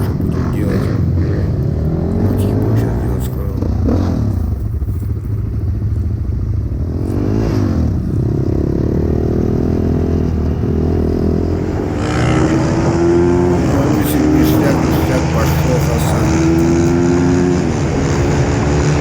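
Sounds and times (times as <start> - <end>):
small motorcycle engine revving: 0.0 - 19.0.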